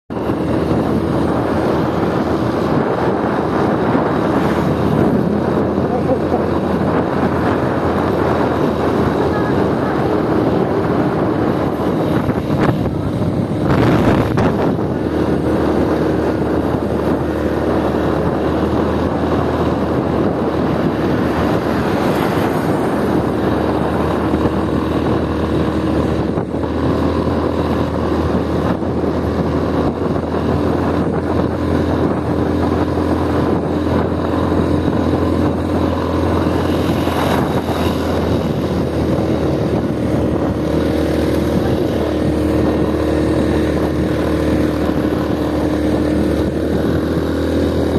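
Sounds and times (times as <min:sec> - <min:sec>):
wind rushing over microphone: 0:00.0 - 0:47.9
motorbike engine running: 0:00.1 - 0:47.9.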